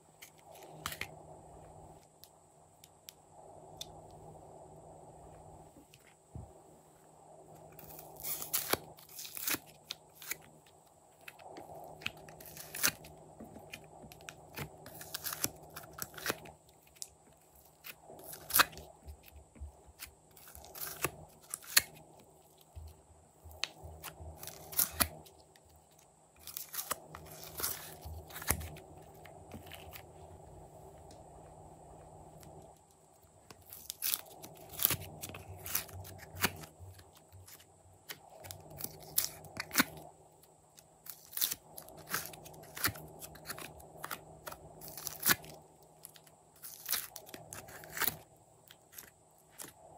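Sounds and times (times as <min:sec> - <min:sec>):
clay and slime crunching and crackling: 0:07.6 - 0:30.2, 0:32.0 - 0:49.9.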